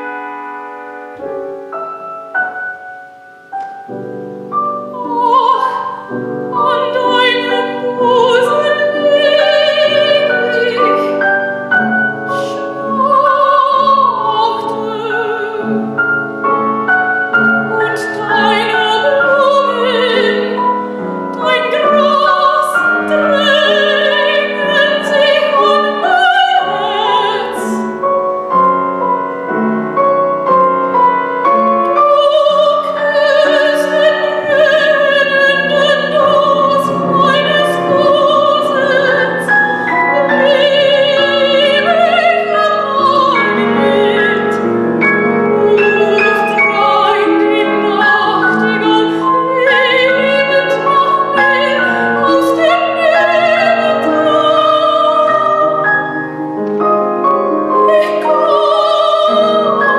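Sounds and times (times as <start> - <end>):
piano accompaniment: 0.0 - 59.9
soprano singing with vibrato: 3.9 - 59.9.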